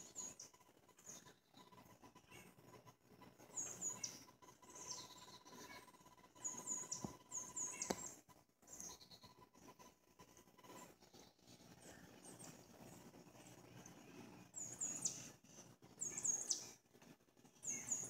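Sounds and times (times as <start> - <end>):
faint steady tone: 0.0 - 18.0
small birds chirping: 0.0 - 18.0.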